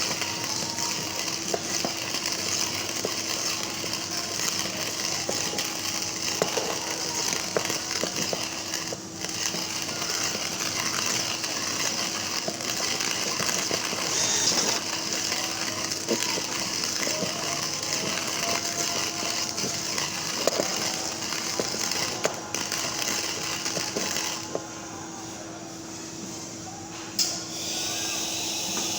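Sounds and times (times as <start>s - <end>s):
hand grinder crushing coffee beans: 0.0s - 24.6s.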